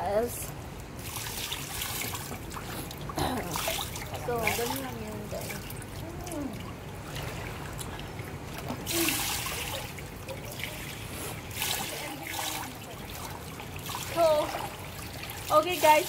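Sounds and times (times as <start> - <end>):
pool water trickling into gutter: 0.0 - 16.0
water splashes: 0.0 - 16.0.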